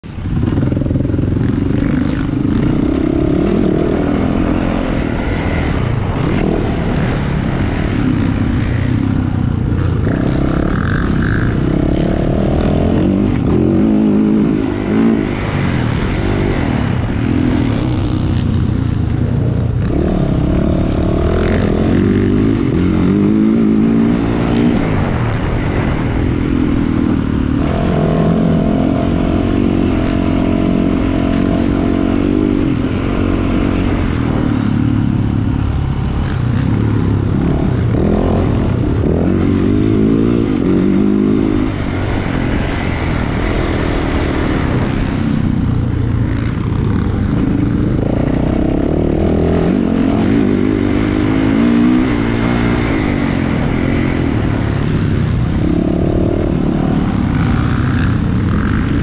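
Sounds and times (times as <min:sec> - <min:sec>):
motocross bike engine revving: 0:00.2 - 0:59.0.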